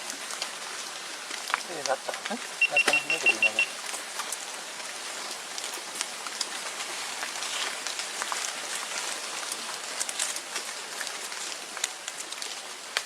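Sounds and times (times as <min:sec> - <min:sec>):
water pattering on a surface: 0:00.0 - 0:13.0.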